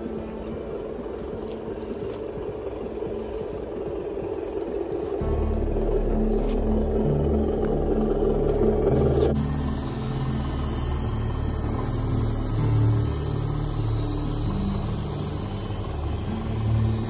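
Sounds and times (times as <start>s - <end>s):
background music with bass: 0.0s - 17.0s
insects droning: 0.0s - 17.0s.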